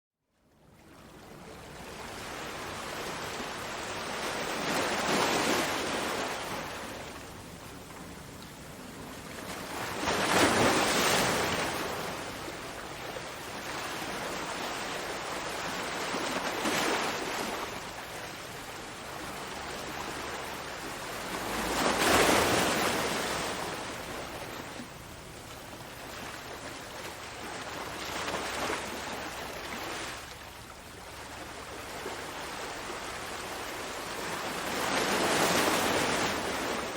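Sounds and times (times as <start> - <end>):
ocean waves breaking on shore: 0.7 - 36.9.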